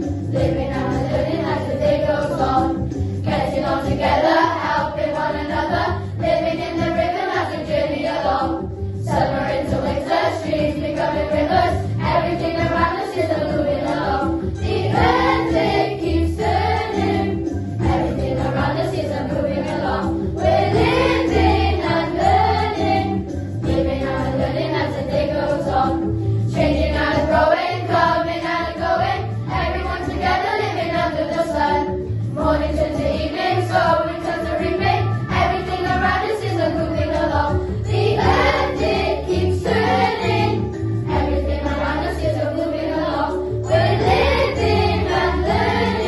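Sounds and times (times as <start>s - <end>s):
children singing together: 0.0s - 46.0s
instrumental accompaniment: 0.0s - 46.0s.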